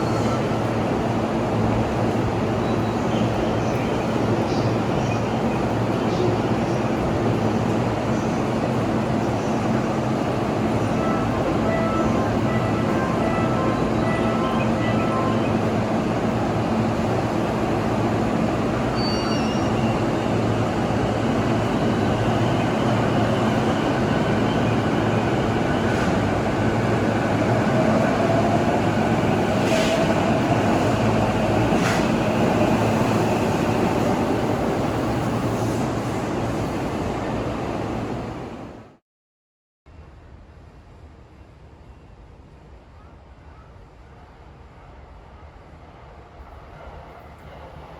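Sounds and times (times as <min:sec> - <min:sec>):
train wheels rumbling on rails: 0:00.0 - 0:38.8.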